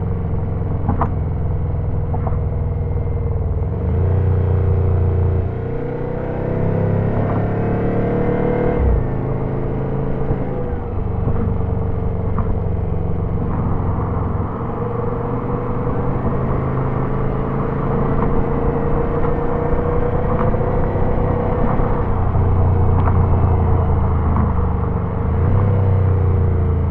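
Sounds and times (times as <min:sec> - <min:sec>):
car engine pulling: 0:00.0 - 0:26.9
faint turbo whine: 0:00.0 - 0:26.9
road rumble: 0:00.0 - 0:26.9.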